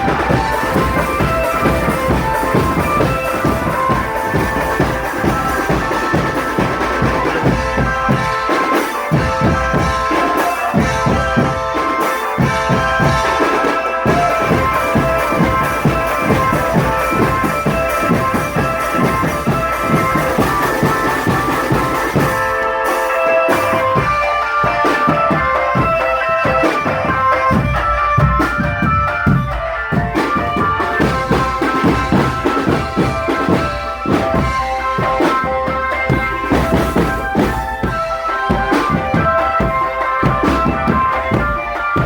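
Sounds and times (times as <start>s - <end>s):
marching drum band playing: 0.0s - 42.0s.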